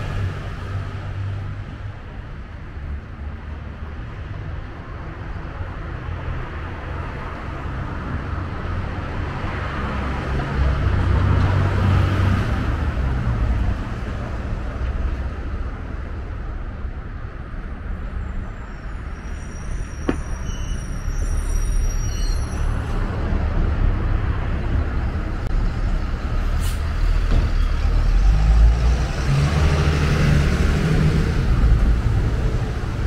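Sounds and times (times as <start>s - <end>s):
road traffic hum: 0.0s - 33.0s.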